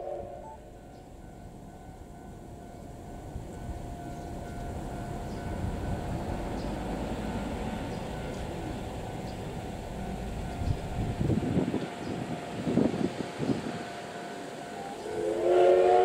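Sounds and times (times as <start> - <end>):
steam train approaching rumble: 0.0 - 16.0.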